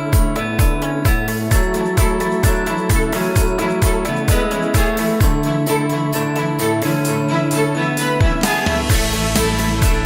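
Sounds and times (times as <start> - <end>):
bass: 0.0 - 10.0
higher percussion: 0.0 - 10.0.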